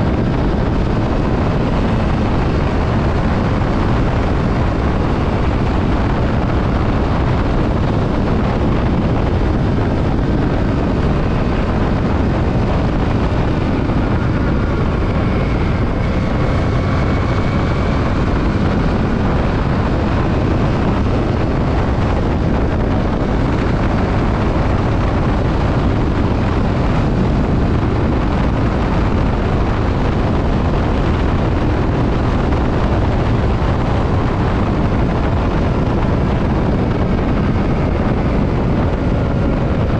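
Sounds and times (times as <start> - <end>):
faint whine: 0.0 - 39.9
motorcycle engine running: 0.0 - 39.9
road noise: 0.0 - 39.9
wind rush on microphone: 0.0 - 39.9.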